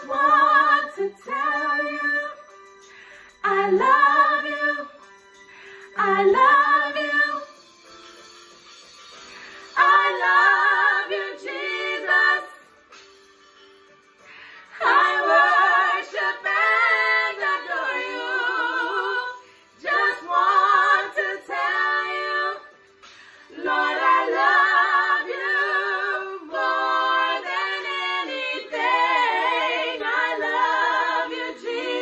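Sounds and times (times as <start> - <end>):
women singing a cappella: 0.0 - 2.6, 3.4 - 5.2, 5.8 - 7.6, 9.6 - 12.8, 14.6 - 32.0.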